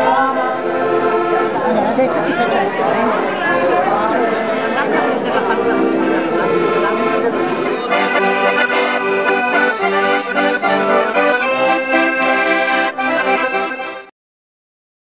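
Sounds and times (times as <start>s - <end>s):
voices chattering: 0.0s - 14.0s
accordions playing folk music: 0.0s - 14.1s.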